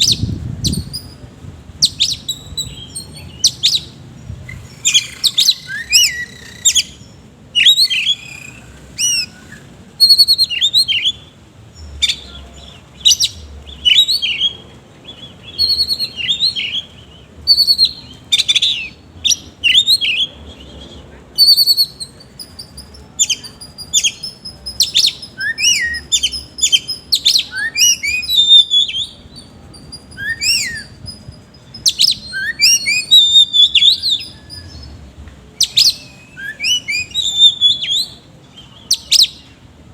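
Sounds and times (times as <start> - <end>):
bird singing whistled phrases: 1.8 - 11.3, 15.2 - 35.0, 35.6 - 39.5.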